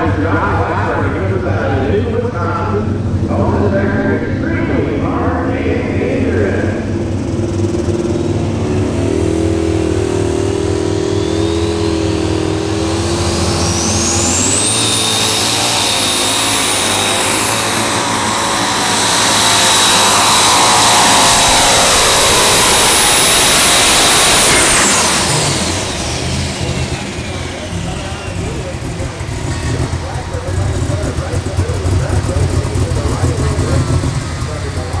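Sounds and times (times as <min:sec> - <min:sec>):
diesel tractor engine roaring: 0:00.0 - 0:35.0
turbo whine: 0:00.0 - 0:35.0.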